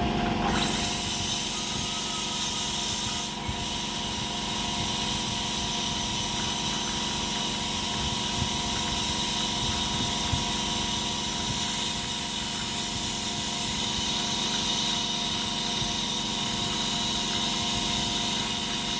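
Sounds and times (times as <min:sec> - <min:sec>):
small motor whirring with whine: 0:00.0 - 0:18.9.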